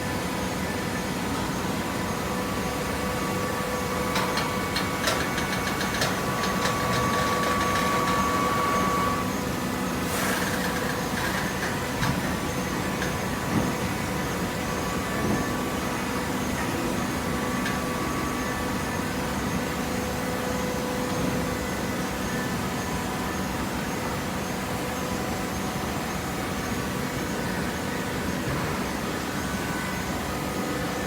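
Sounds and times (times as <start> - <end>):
baler motor and pump hum: 0.0 - 31.0.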